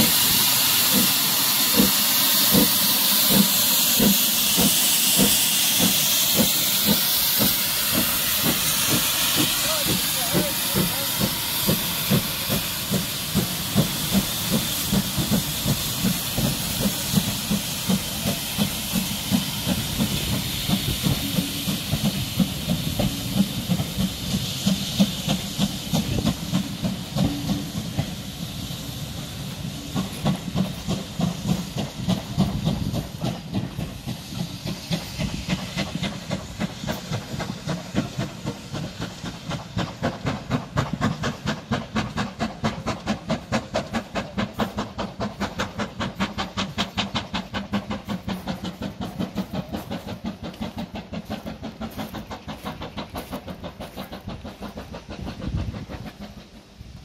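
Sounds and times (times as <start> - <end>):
steam locomotive hiss: 0.0 - 57.0
train wheels clicking over rail joints: 0.0 - 57.0.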